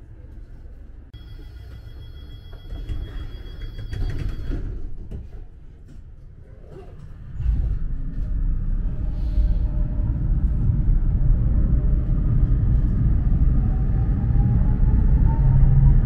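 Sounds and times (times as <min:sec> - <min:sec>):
tram low rumble: 0:00.0 - 0:16.0.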